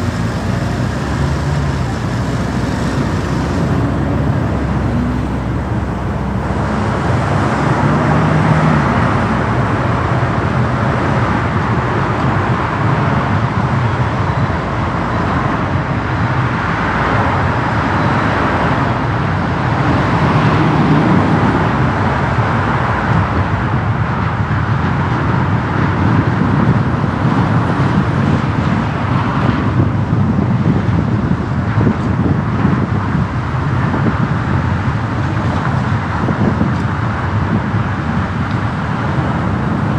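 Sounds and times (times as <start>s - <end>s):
road and traffic noise: 0.0s - 39.9s.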